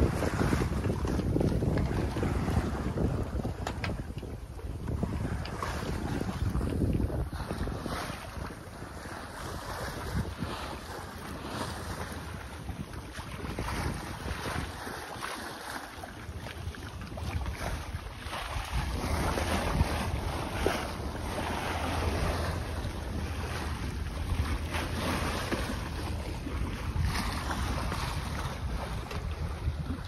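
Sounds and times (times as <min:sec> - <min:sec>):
water splashing along hull: 0:00.0 - 0:30.0
wind buffeting microphone: 0:00.0 - 0:30.0.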